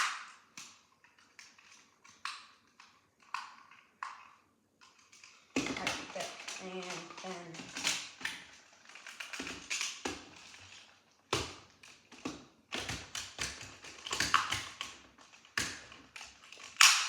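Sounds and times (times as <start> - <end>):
plastic clicks and knocks: 0.0 - 17.0.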